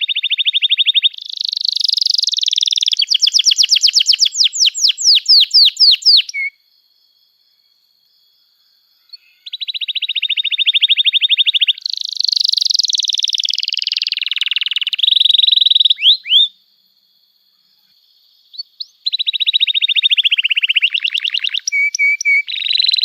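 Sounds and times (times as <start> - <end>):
canary singing: 0.0 - 6.6, 9.1 - 16.5, 18.5 - 23.0.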